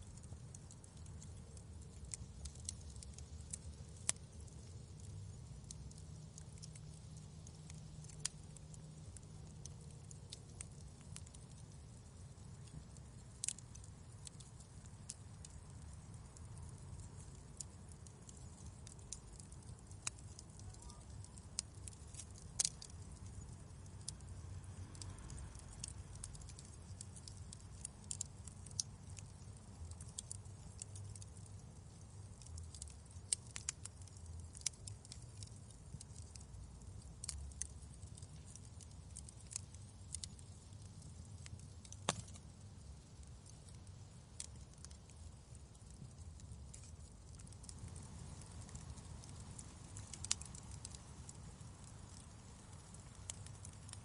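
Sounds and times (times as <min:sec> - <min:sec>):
low steady rumble: 0:00.0 - 0:54.0
wood fire crackling and popping: 0:00.0 - 0:54.0.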